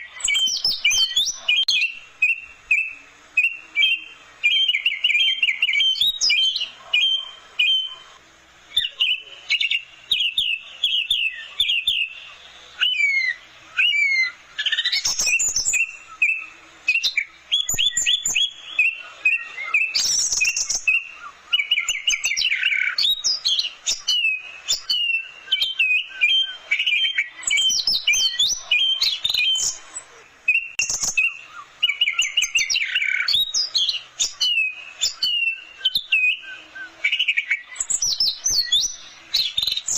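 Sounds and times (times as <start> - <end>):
thrush singing trills and whistles: 0.0 - 39.9.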